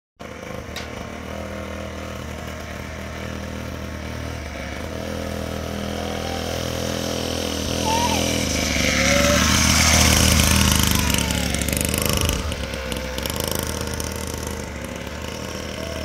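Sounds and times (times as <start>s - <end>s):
small dirt bike engine running: 0.2s - 16.0s.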